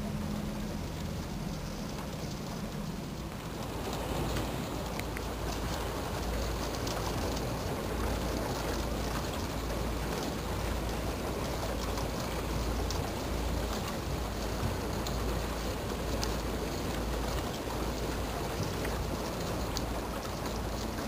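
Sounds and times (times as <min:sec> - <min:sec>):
water rushing along boat hull: 0:00.0 - 0:21.0.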